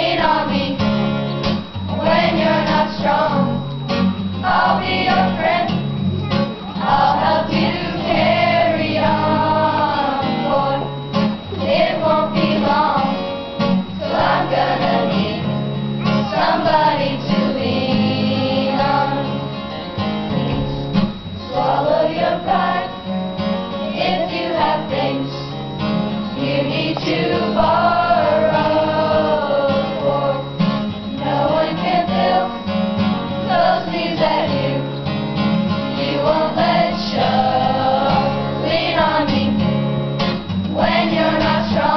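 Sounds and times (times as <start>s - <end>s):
acoustic guitar: 0.0s - 41.9s
children's choir singing: 0.0s - 41.9s.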